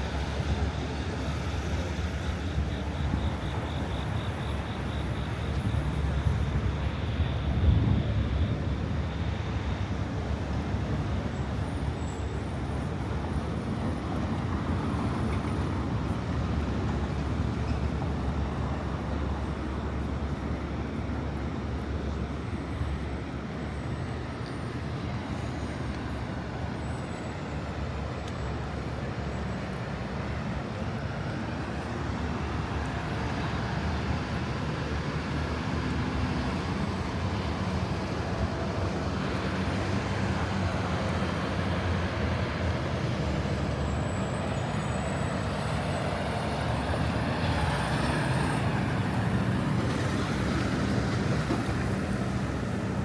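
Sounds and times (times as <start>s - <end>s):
street traffic rumble: 0.0s - 53.0s.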